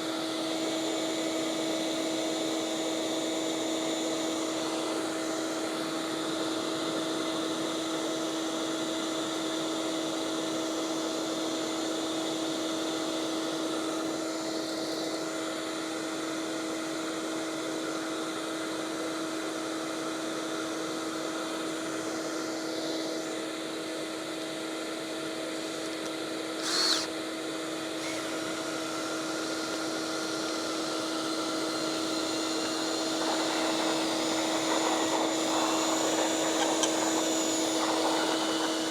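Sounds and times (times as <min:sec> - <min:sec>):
shop vacuum whining: 0:00.0 - 0:38.9.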